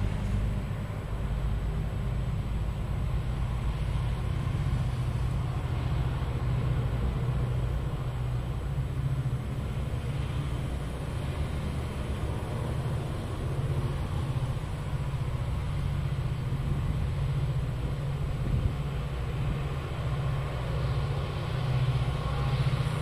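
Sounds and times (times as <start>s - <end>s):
diesel locomotive engines droning: 0.0s - 23.0s.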